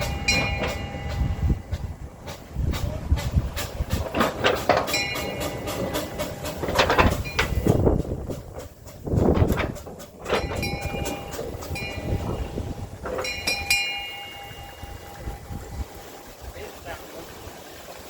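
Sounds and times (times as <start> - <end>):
train clattering along track: 0.0 - 16.2.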